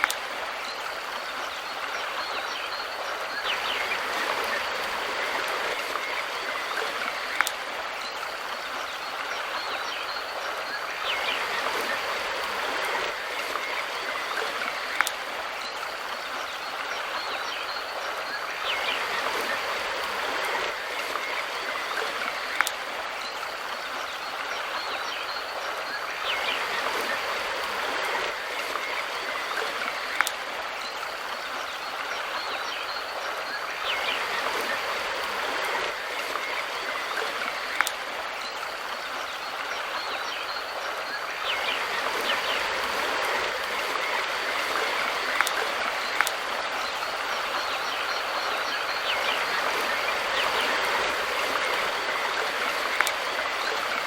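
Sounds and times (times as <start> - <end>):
river flowing: 0.0 - 54.0
sharp water clicks: 0.0 - 54.0.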